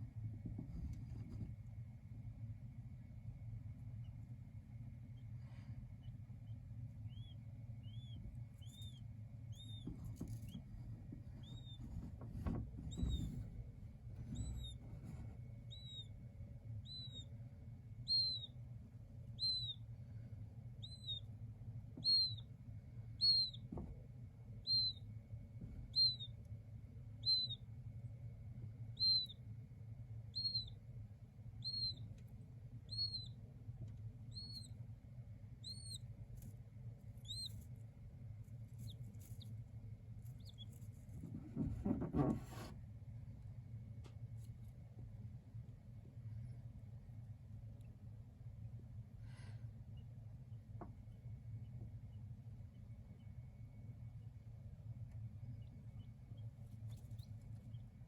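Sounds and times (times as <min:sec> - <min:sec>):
quail chick peeping: 0:00.0 - 0:02.2, 0:02.8 - 0:58.0
low hum: 0:00.0 - 0:58.0.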